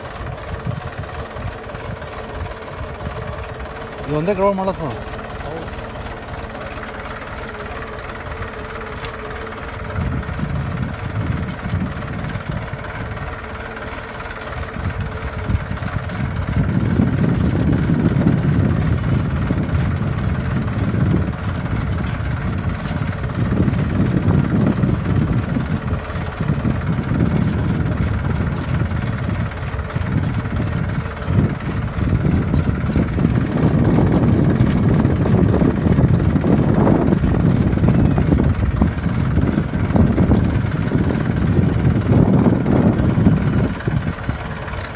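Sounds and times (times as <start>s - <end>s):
tractor engine running under load: 0.0s - 44.9s.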